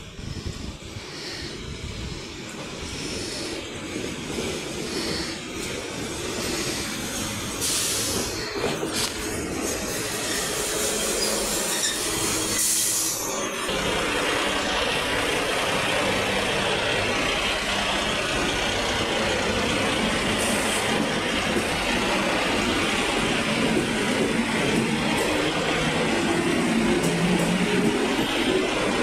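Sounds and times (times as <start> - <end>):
diesel locomotive passing: 0.0 - 29.0
train wheels rumbling on rails: 0.0 - 29.0.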